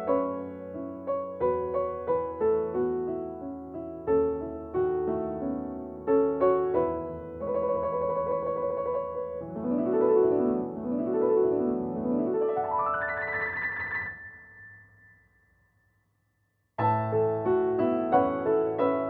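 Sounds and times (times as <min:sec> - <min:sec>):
piano music: 0:00.0 - 0:15.4, 0:16.8 - 0:19.0.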